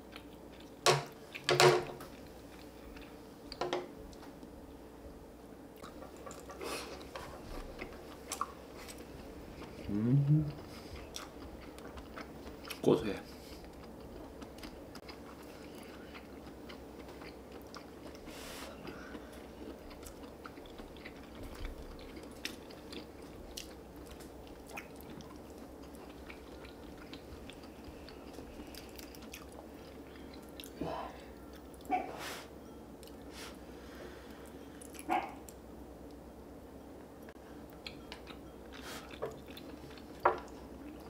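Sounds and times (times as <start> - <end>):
people chewing food: 0.0 - 4.5, 5.8 - 36.2, 37.1 - 41.0.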